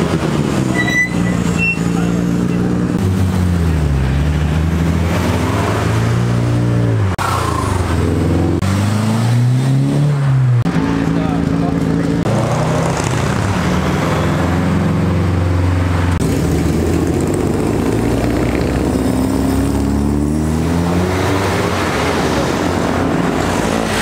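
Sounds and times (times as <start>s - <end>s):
car engines driving off: 0.0s - 24.0s.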